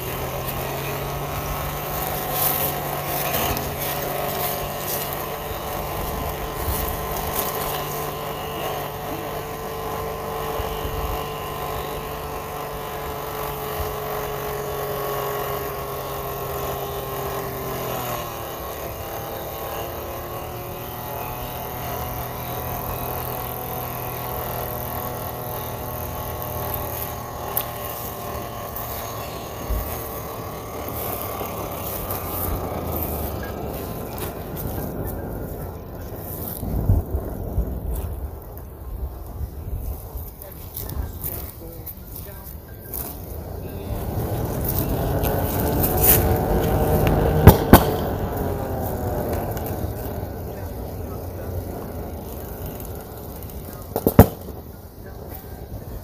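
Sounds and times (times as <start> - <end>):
heater fan motor hum: 0.0 - 56.0
sharp crackling: 0.0 - 56.0.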